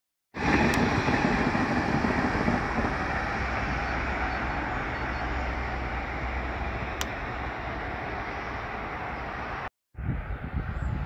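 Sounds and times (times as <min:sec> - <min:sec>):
train rolling past: 0:00.4 - 0:11.0.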